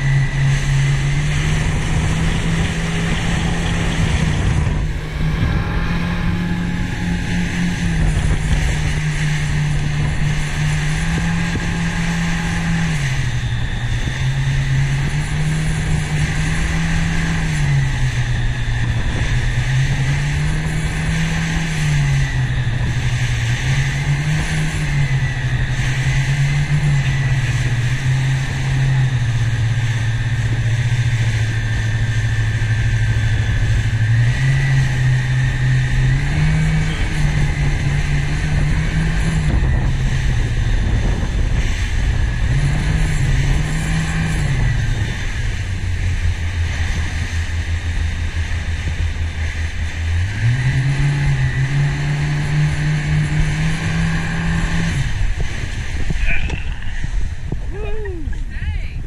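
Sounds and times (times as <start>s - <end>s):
outboard engine revving: 0.0s - 59.0s
rush of wind and water: 0.0s - 59.0s.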